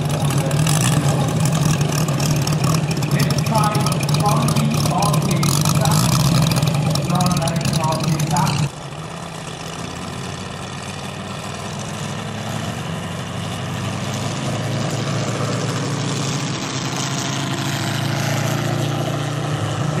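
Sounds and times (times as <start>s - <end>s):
model plane radial engines running: 0.0s - 20.0s.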